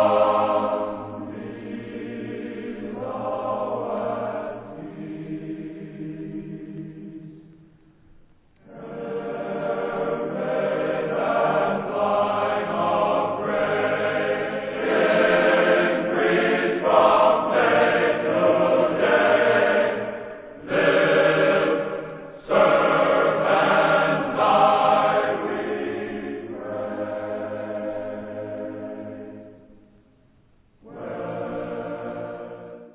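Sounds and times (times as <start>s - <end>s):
choir singing: 0.0s - 7.7s, 8.6s - 30.0s, 30.8s - 32.9s.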